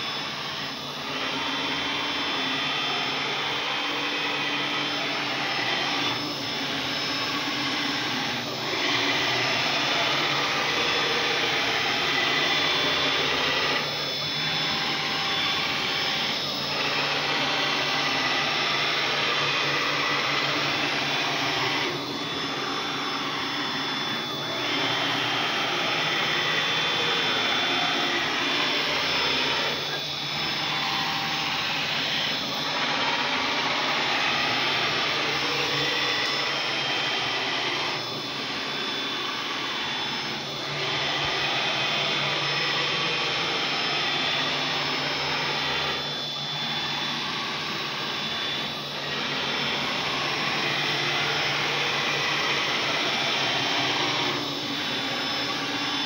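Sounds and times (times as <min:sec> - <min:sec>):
cnc router spindle whine: 0:00.0 - 0:56.0.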